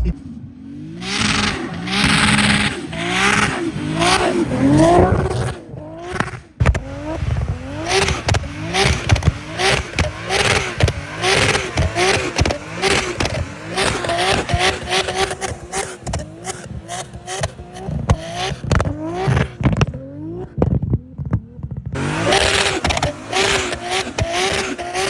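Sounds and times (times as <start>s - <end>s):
car engine revving: 0.0s - 25.0s
sharp exhaust cracks: 1.0s - 20.8s, 21.9s - 25.0s.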